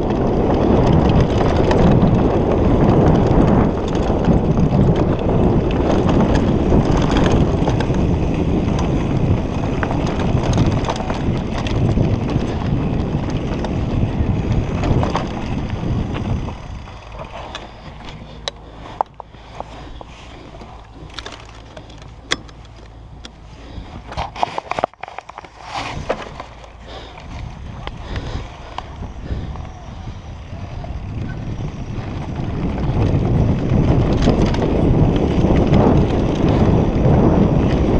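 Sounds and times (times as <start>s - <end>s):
bike rattling: 0.0s - 37.9s
tyres rumbling over dirt: 0.0s - 37.9s
wind on microphone: 0.0s - 37.9s.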